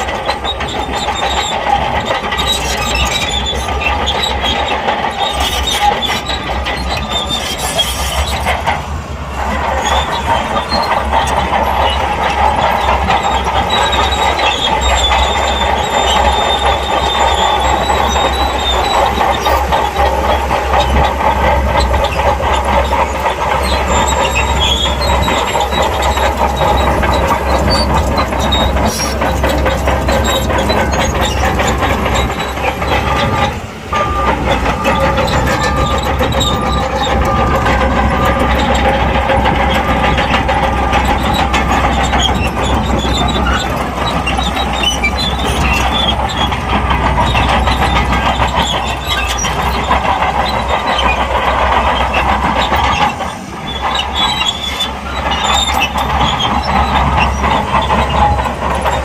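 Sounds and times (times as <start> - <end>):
diesel engine running: 0.0 - 59.0
steel tracks clanking and squealing: 0.0 - 59.0.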